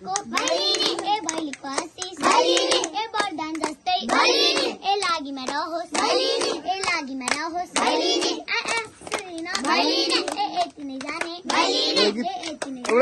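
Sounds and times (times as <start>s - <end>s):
children singing in chorus: 0.0s - 12.8s
hands clapping: 0.0s - 13.0s.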